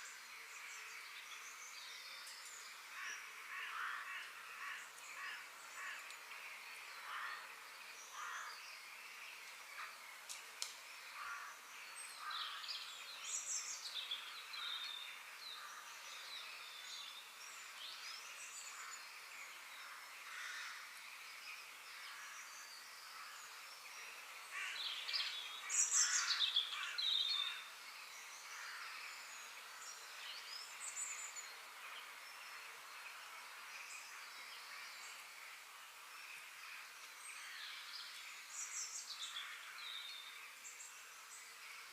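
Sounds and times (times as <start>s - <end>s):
songbirds chirping: 0.0s - 41.9s
steady background hiss: 0.0s - 41.9s.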